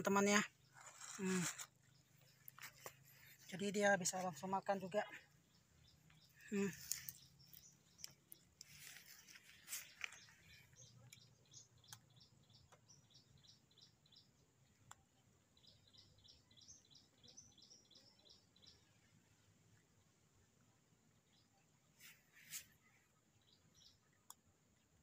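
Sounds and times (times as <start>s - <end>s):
small bird chirping: 0.0s - 19.2s, 21.3s - 24.5s.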